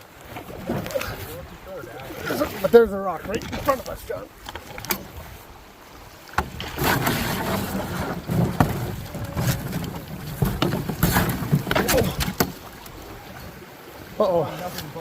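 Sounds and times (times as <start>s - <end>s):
canoe knocks: 0.0s - 5.4s, 6.3s - 13.6s
water rushing: 0.0s - 15.0s.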